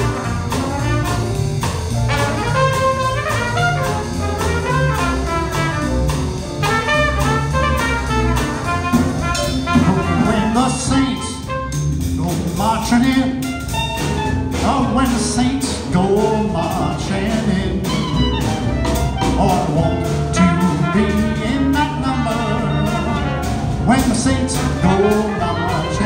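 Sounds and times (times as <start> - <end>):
jazz band playing: 0.0 - 26.0
trumpet lead: 0.0 - 26.0.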